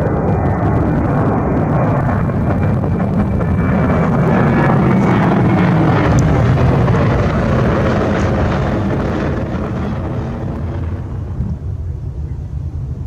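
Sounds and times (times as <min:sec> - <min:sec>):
jet airliner engine roar: 0:00.0 - 0:13.0.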